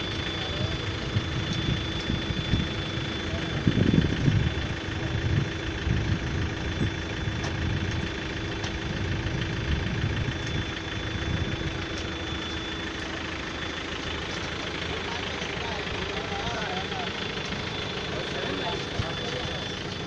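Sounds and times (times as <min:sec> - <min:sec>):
high whine: 0:00.0 - 0:20.0
vehicle engine idling: 0:00.0 - 0:20.0.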